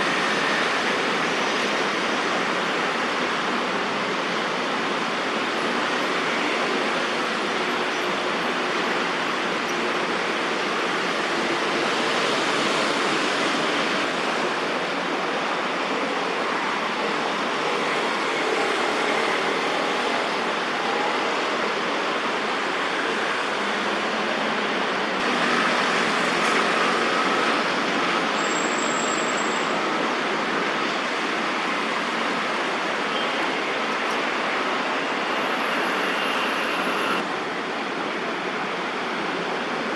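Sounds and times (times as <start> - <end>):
road traffic hiss: 0.0 - 39.9.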